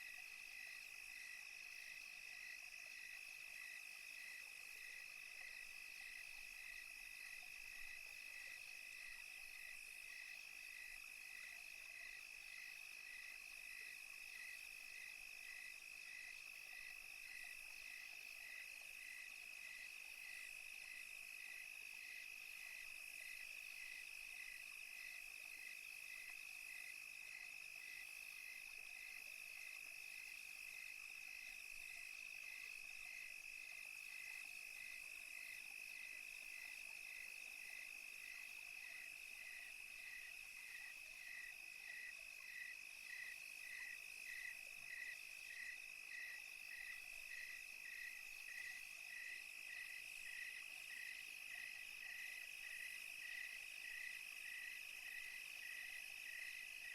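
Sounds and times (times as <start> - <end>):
pulsing cricket chirp: 0.0 - 56.9.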